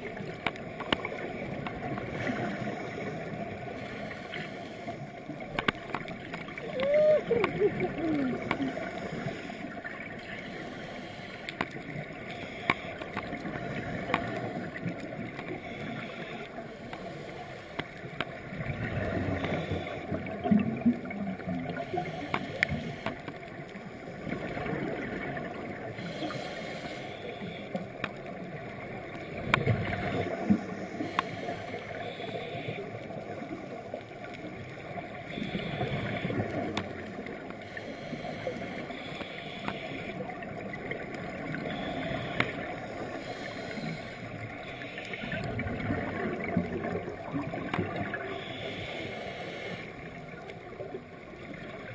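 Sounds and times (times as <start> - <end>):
underwater air bubbling: 0.0 - 51.9.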